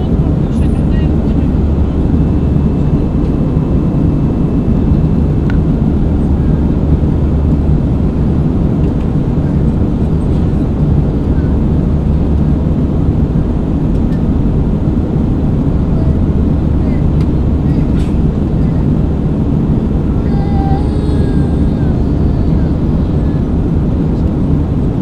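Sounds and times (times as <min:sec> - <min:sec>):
airliner cabin engine drone: 0:00.0 - 0:25.0.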